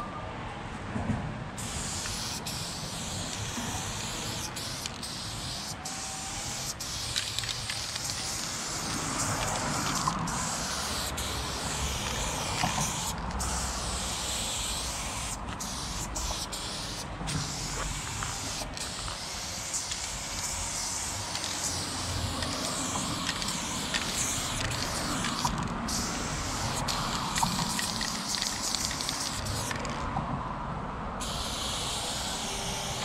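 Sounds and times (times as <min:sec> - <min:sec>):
spray can hissing: 0:01.6 - 0:30.1, 0:31.2 - 0:33.0.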